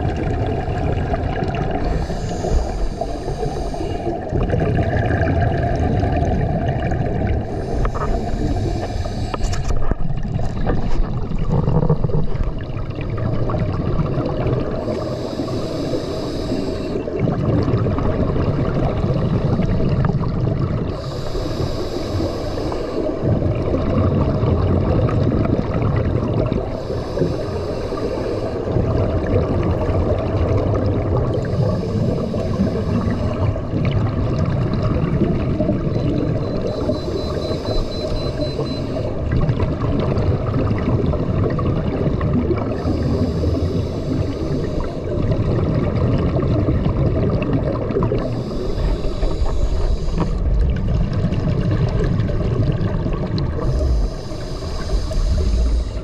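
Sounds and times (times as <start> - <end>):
low rumble of water: 0.0 - 56.0
regulator bubbles hissing: 0.0 - 56.0.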